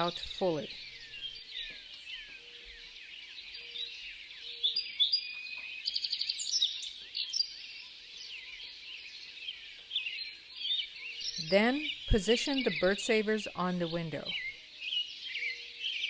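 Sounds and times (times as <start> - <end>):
bird trill: 0.0 - 16.0
songbirds chirping: 0.0 - 16.0.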